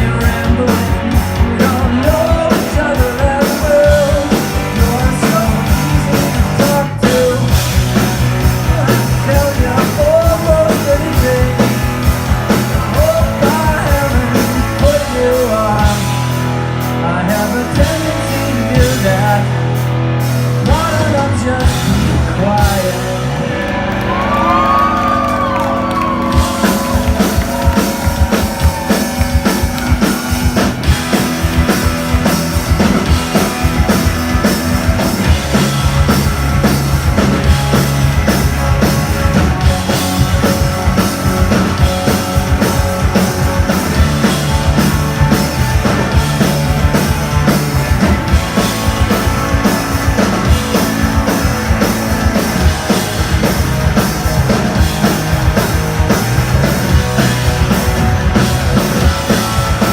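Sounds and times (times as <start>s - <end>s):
drum kit: 0.0s - 59.9s
electric guitars: 0.0s - 59.9s
rock band playing live: 0.0s - 59.9s.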